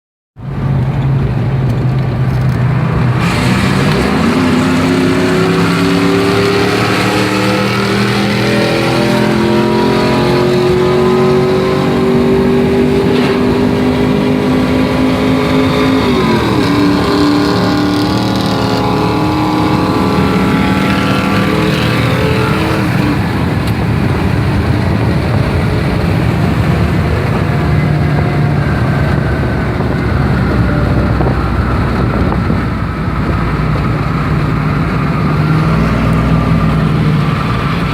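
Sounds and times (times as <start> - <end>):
pickup truck engines revving: 0.4 - 37.9.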